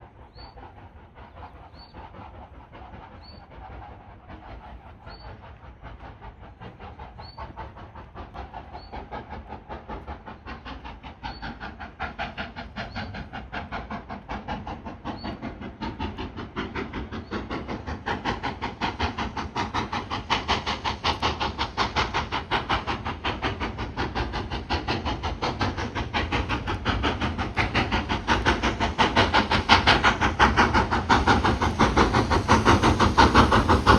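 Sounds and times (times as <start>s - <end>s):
steam locomotive exhaust beats: 0.0s - 33.9s.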